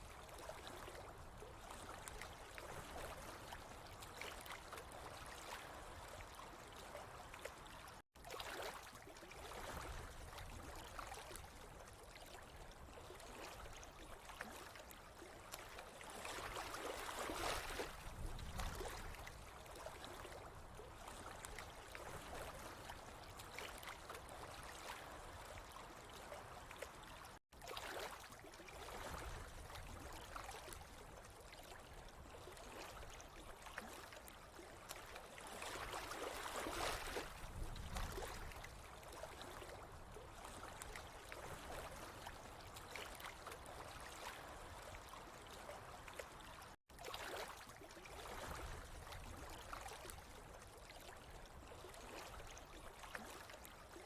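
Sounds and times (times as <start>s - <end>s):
water trickling and gurgling: 0.0s - 54.0s.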